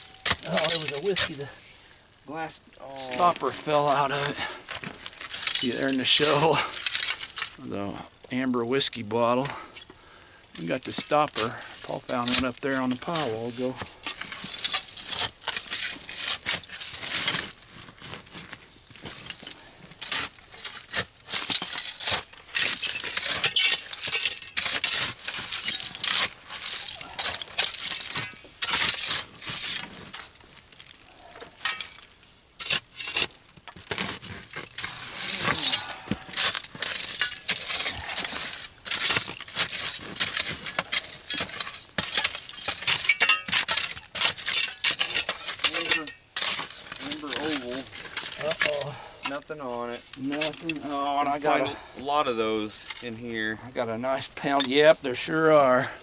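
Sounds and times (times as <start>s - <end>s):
glass shards clinking and scraping: 0.0s - 1.7s, 2.8s - 8.2s, 9.2s - 56.0s.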